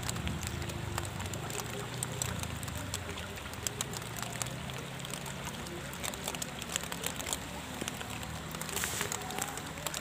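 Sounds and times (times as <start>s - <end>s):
rain hissing on river: 0.0s - 10.0s
raindrops ticking: 0.0s - 10.0s.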